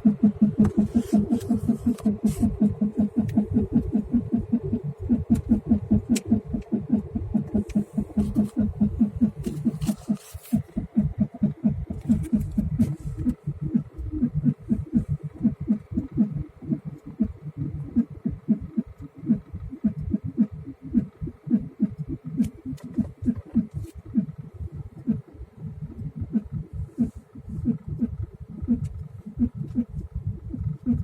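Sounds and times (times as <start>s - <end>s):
sharp engine clicks: 0.0s - 10.0s, 10.6s - 31.0s
diesel engine running: 0.0s - 31.0s.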